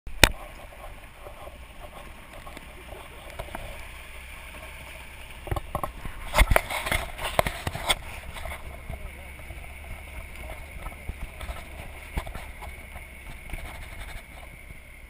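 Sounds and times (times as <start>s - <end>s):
motorcycle engine hum: 0.1s - 15.0s
wind and road noise: 0.1s - 15.0s.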